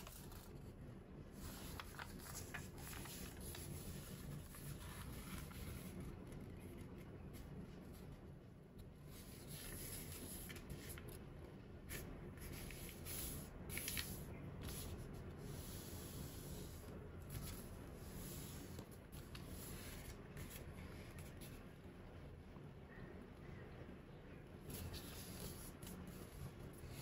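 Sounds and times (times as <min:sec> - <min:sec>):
paper rustling while folded: 0:00.0 - 0:08.2, 0:08.8 - 0:11.2, 0:11.8 - 0:21.7, 0:24.7 - 0:27.0.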